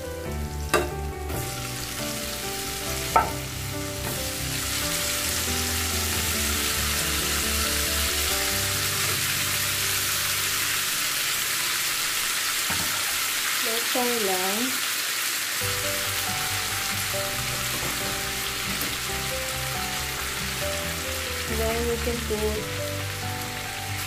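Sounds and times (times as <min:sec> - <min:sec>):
shrimp sizzling in butter: 0:00.2 - 0:24.0.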